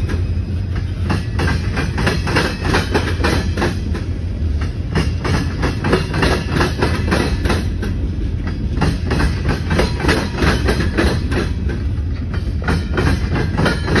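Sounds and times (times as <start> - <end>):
freight train rumbling: 0.0 - 14.0
wheels clacking over rail joints: 0.0 - 14.0.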